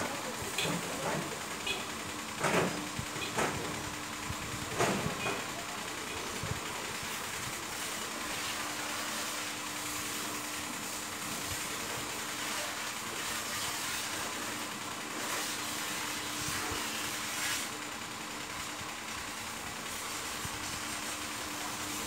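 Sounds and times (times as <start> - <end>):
rotisserie motor hum: 0.0 - 22.0.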